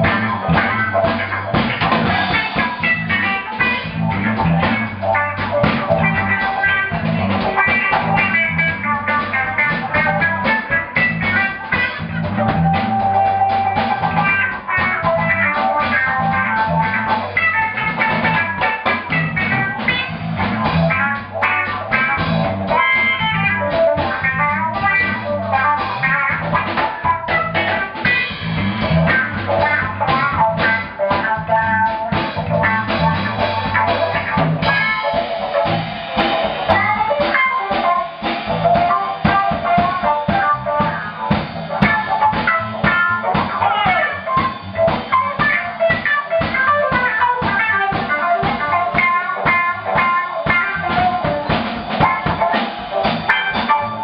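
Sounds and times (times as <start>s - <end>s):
drum beat: 0.0s - 54.0s
electric guitar: 0.0s - 54.0s.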